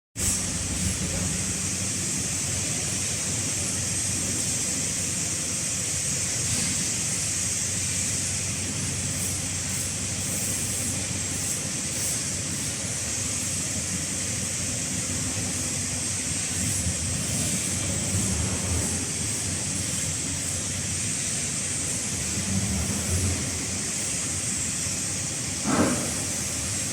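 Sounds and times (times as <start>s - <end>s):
machine mechanical hum and hiss: 0.2s - 26.9s.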